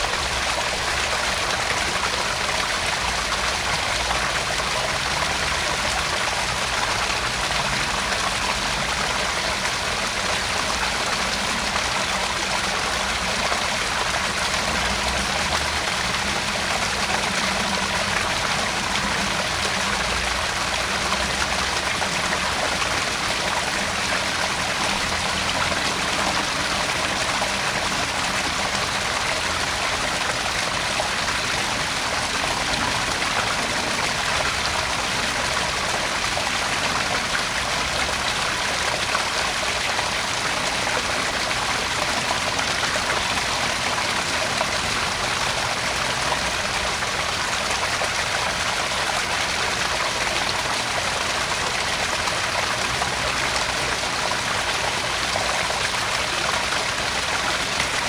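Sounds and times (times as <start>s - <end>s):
waterfall splashing into pond: 0.0s - 58.0s.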